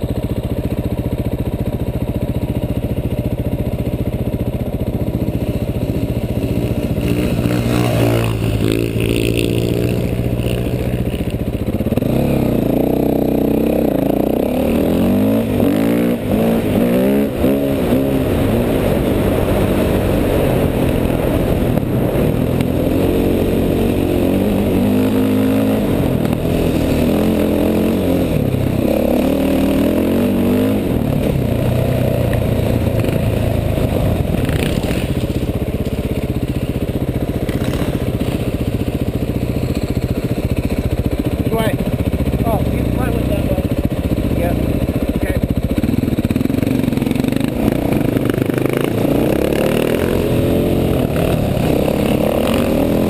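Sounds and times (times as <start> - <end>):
dirt bike engine revving: 0.1 - 53.0.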